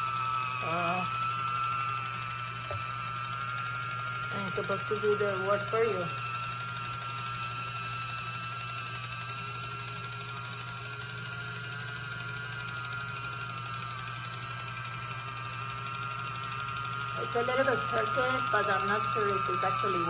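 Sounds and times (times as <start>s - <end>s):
electric can opener whine: 0.0s - 20.0s.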